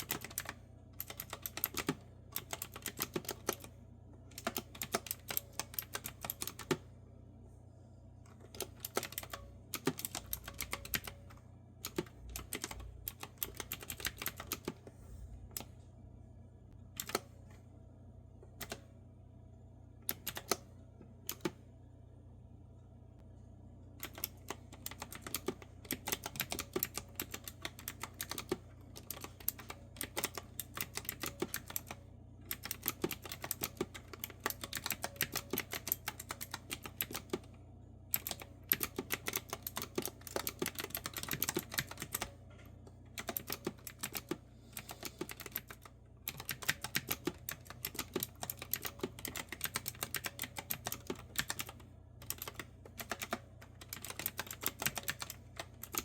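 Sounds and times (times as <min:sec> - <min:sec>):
clicky keyboard typing: 0:00.0 - 0:06.8, 0:08.4 - 0:14.8, 0:17.0 - 0:17.3, 0:18.6 - 0:18.8, 0:20.0 - 0:20.7, 0:21.3 - 0:21.6, 0:24.0 - 0:37.5, 0:38.1 - 0:56.0.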